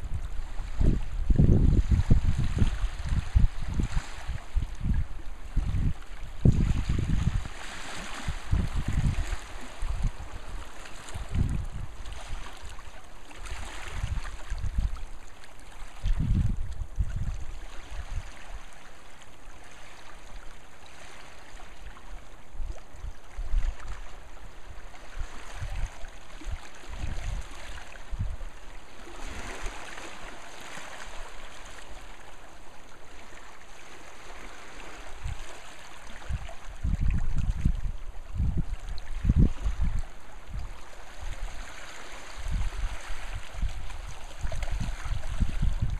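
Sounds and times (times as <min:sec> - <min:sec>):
small waves lapping on rocks: 0:00.0 - 0:45.9
wind rumble on microphone: 0:00.0 - 0:45.9.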